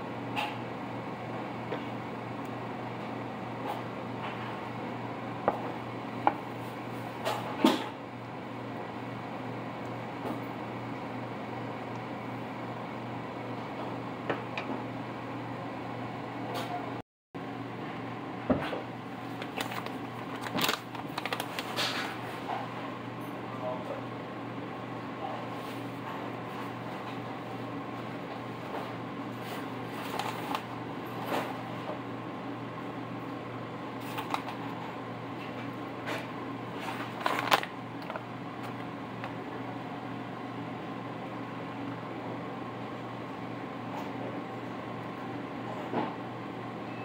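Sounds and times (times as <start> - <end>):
mechanical hum: 0.0 - 47.0.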